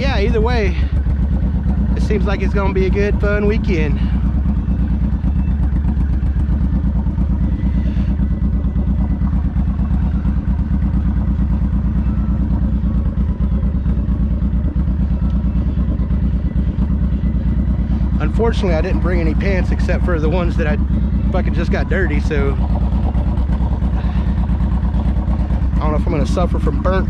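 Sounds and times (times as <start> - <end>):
motorcycle engine running steadily: 0.0 - 27.0.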